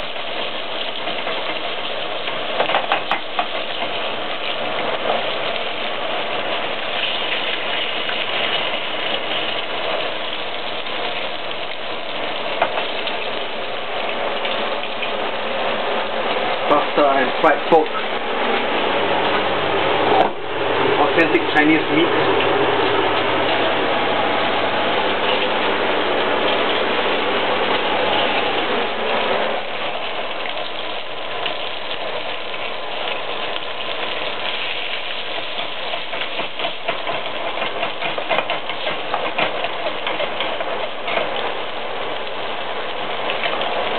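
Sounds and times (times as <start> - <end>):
meat sizzling in oil: 0.0 - 43.9
oil crackling spatters: 0.0 - 43.9.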